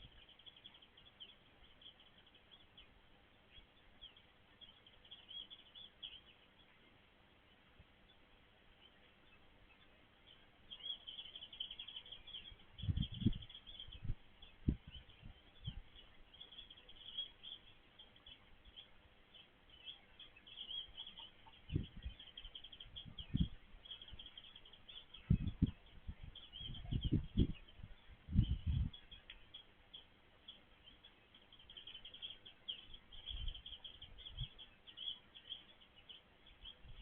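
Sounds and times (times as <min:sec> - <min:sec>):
small birds twittering: 0:00.0 - 0:37.0.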